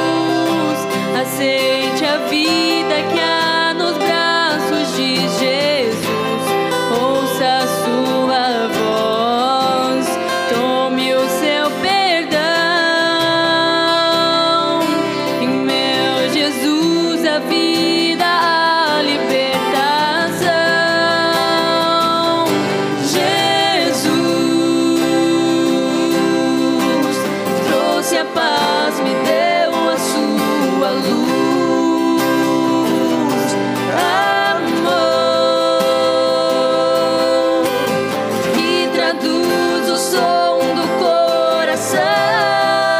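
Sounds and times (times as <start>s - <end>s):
guitar playing: 0.0s - 42.9s
person singing: 0.0s - 42.9s.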